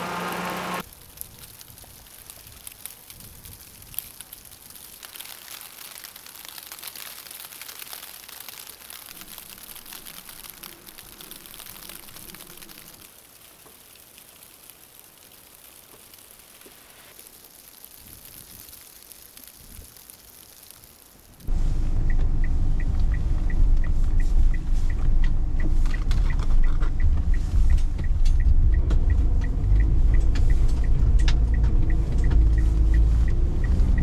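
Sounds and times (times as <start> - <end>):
light rain falling: 0.0 - 34.0.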